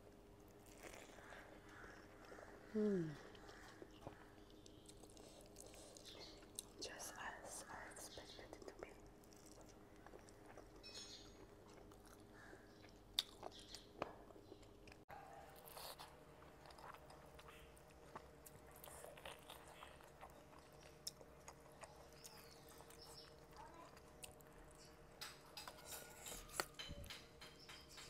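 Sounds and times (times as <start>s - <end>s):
person chewing food: 0.2s - 6.8s, 8.7s - 27.7s.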